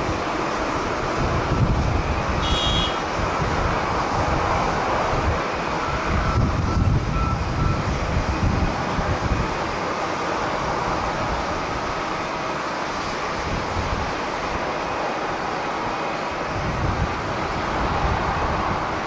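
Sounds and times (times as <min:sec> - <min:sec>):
jet engine rushing: 0:00.0 - 0:19.0
wind gusting on microphone: 0:00.0 - 0:19.0.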